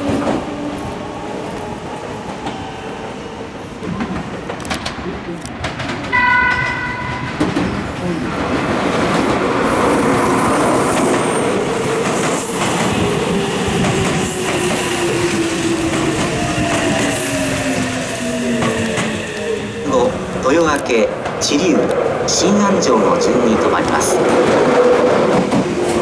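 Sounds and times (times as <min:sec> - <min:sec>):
train wheels clattering over rails: 0:00.0 - 0:19.8, 0:23.8 - 0:26.0.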